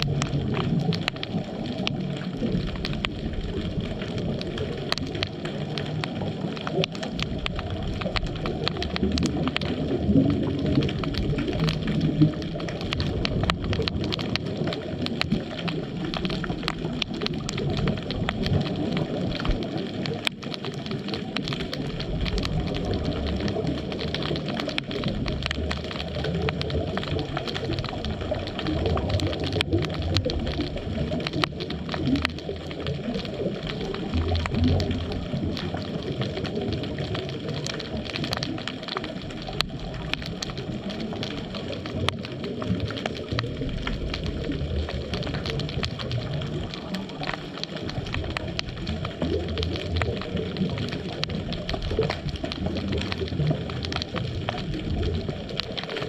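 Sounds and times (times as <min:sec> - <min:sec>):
faint crackling clicks: 0:00.0 - 0:56.0
muffled underwater noise: 0:00.0 - 0:56.0.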